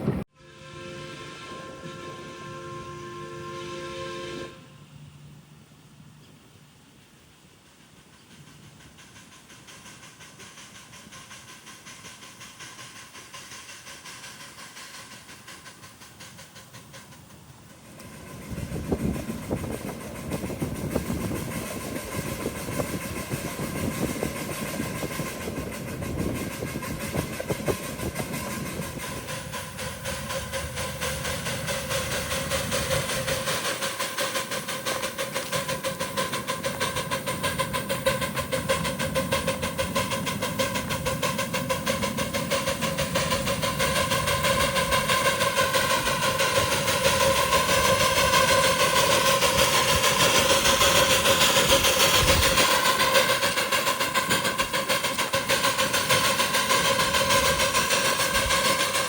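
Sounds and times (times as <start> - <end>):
steady hiss: 4.5 - 59.0
rapid clicking of train wheels: 6.2 - 59.0
miniature train running: 7.4 - 59.0.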